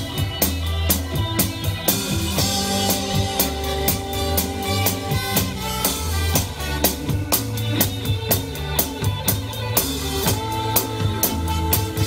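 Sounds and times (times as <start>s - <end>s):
live jazz band music: 0.0s - 12.0s.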